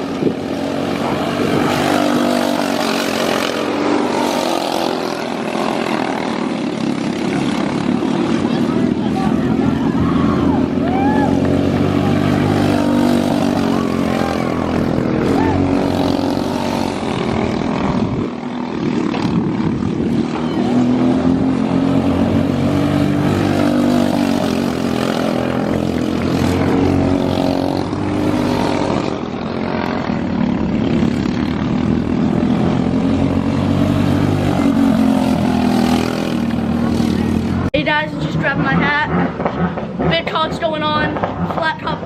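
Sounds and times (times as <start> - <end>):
kart engines running hard: 0.0 - 42.0.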